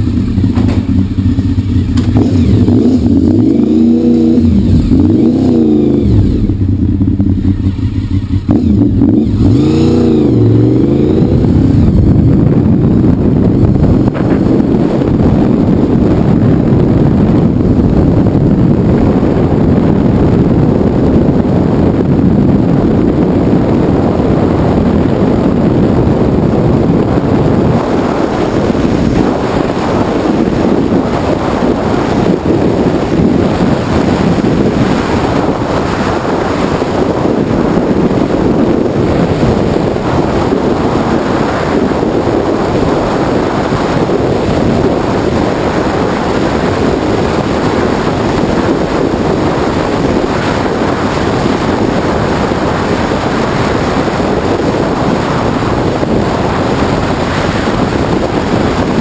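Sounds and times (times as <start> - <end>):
motorcycle engine running: 0.0 - 59.0
wind buffeting helmet camera: 0.0 - 59.0.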